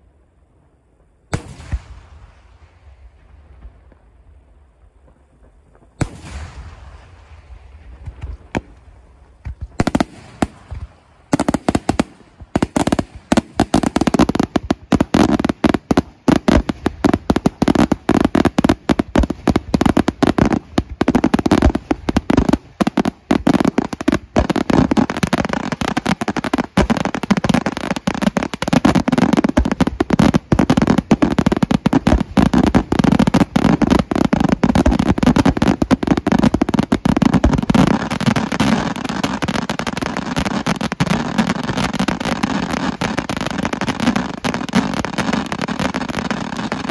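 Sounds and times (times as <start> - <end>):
firework crackle: 0.0 - 46.9.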